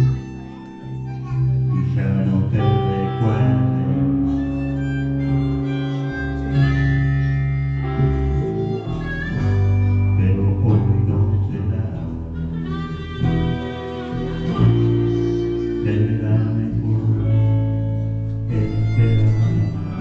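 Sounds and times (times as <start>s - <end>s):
instrumental guitar music: 0.0s - 20.0s
low bass line: 0.0s - 20.0s.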